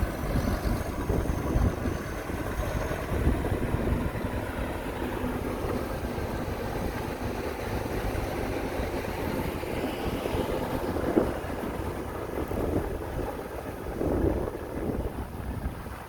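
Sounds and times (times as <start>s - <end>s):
diesel engine rumbling: 0.0s - 15.2s.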